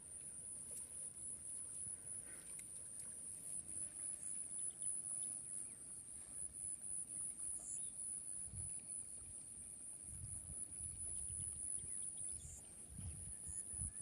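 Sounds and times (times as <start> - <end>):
faint outdoor noise: 0.0 - 14.0.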